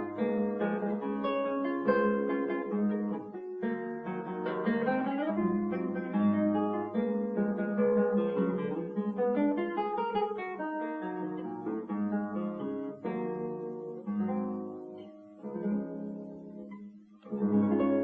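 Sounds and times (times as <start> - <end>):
classical guitar played solo: 0.0 - 18.0.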